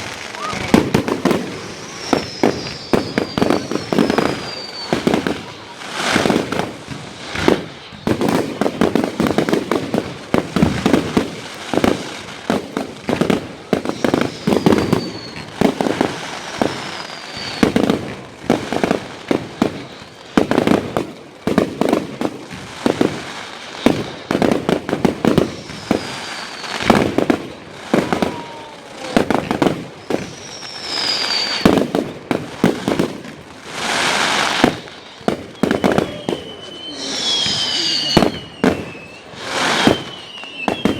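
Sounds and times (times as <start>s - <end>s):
firework hissing rush: 0.0s - 21.0s, 21.6s - 40.9s
falling firework whistles: 0.0s - 40.9s
fireworks bangs and crackling: 0.0s - 40.9s.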